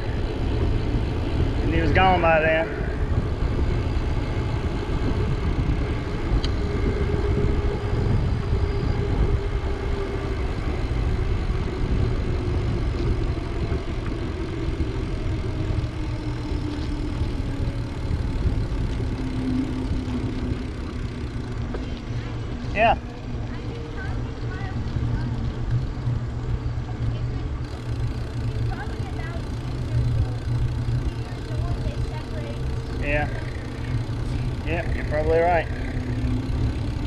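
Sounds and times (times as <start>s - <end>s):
wind rumbling on microphone: 0.0s - 37.0s
faint hum sinking in pitch: 2.2s - 37.0s.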